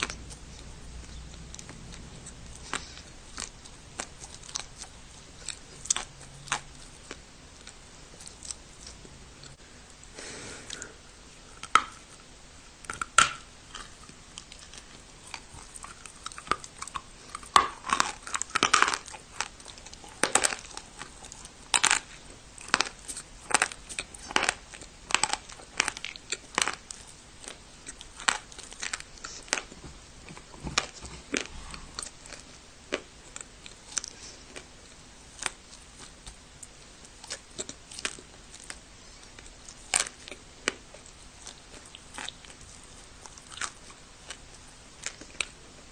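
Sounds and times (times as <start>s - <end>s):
person chewing dry clay: 0.0s - 45.9s.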